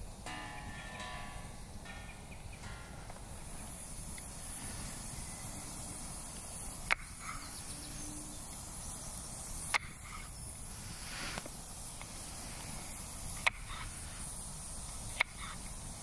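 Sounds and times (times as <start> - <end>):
woodland ambience: 0.0 - 16.0.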